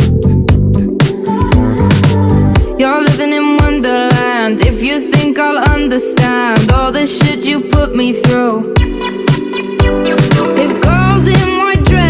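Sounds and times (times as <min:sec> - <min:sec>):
pop music with electronic beat: 0:00.0 - 0:12.0.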